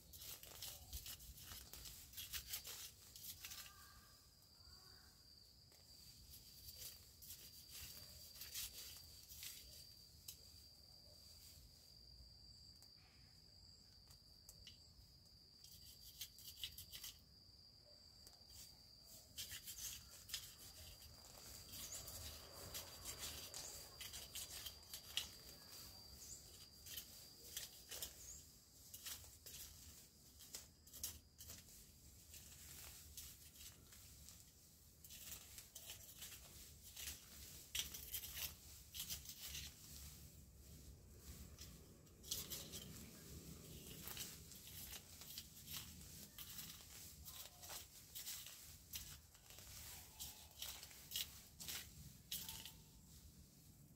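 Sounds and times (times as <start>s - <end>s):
rustling of leaves and plants: 0.0s - 53.9s.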